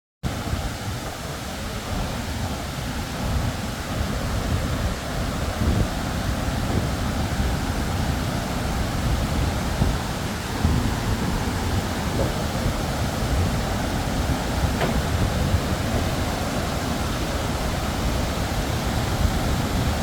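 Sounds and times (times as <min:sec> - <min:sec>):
waterfall rushing: 0:00.3 - 0:20.0.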